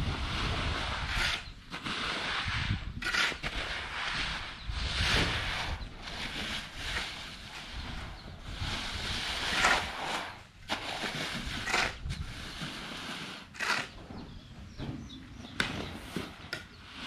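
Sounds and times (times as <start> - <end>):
rake dragged through rice grain: 0.0 - 14.4, 15.7 - 17.0.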